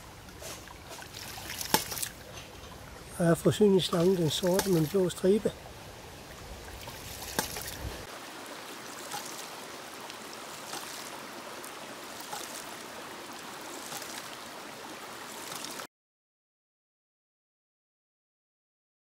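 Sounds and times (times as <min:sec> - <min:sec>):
rushing water: 0:00.0 - 0:15.9.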